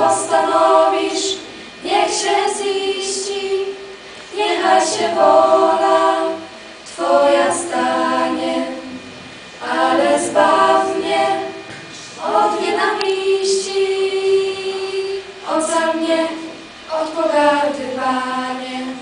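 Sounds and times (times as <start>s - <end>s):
girls singing a cappella: 0.0s - 19.0s.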